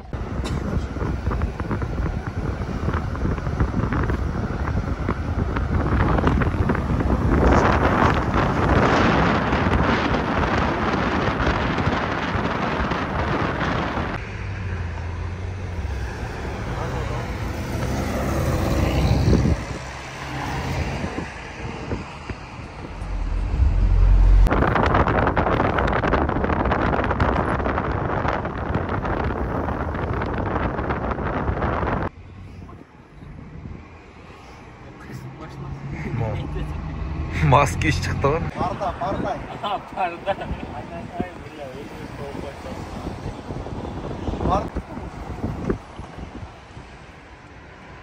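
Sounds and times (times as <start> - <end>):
car road noise: 0.0 - 48.0
wind buffeting microphone: 0.0 - 48.0.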